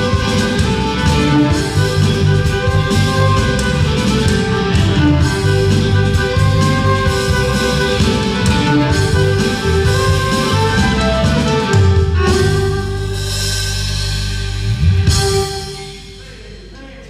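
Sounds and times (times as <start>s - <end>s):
electric guitars: 0.0s - 16.0s
fiddle melody: 0.0s - 16.5s
drum kit: 0.0s - 17.0s.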